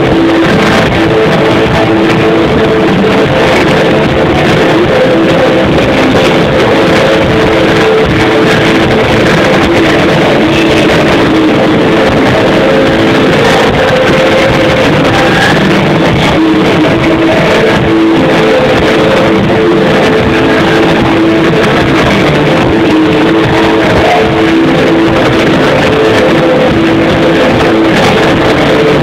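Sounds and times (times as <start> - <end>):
electric guitars droning: 0.0 - 29.0
live rock band playing: 0.0 - 29.0.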